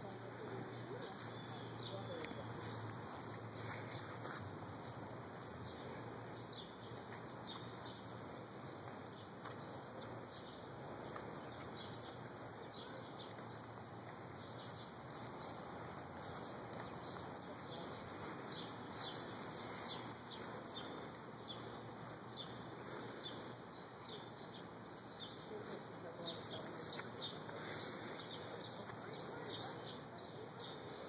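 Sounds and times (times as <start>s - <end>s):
outdoor background hiss: 0.0s - 31.0s
small birds chirping: 0.0s - 31.0s.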